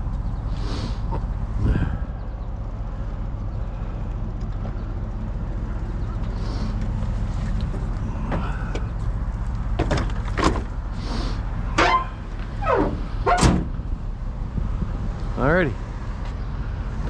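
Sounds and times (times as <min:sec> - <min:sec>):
truck engine running: 0:01.3 - 0:15.7.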